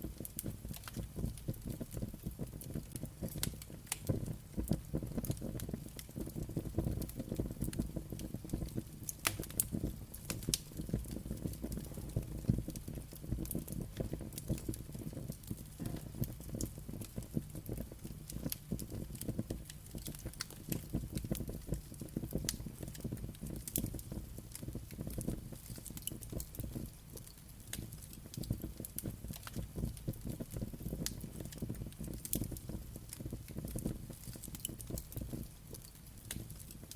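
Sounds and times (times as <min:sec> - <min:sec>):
fire crackling and popping: 0:00.0 - 0:36.9
low rumble of flame: 0:00.0 - 0:36.9.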